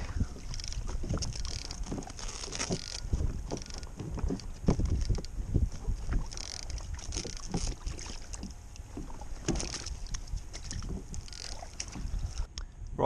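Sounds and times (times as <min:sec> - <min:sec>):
knocks and rustles: 0:00.0 - 0:12.5
water splashing and lapping: 0:00.0 - 0:12.6
low wind rumble on microphone: 0:00.0 - 0:13.0.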